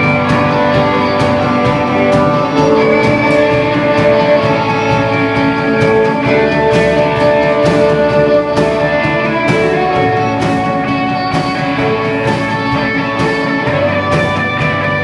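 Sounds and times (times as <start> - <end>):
guitar music with strong beat: 0.0 - 15.0.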